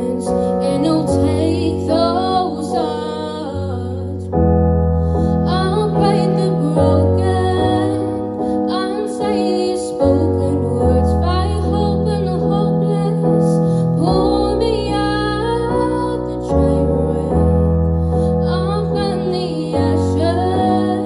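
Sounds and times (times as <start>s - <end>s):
piano chords: 0.0s - 21.0s
woman singing a ballad: 0.0s - 21.0s.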